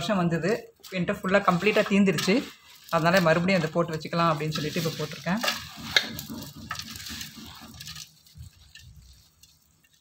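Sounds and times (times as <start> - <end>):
hand mixing food in steel bowl: 0.0 - 10.0.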